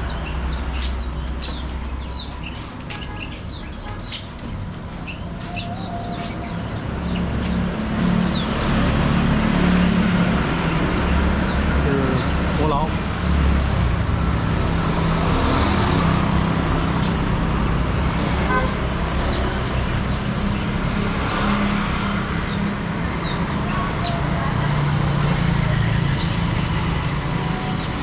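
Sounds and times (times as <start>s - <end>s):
road traffic hum: 0.0s - 28.0s
songbirds chirping: 0.0s - 28.0s.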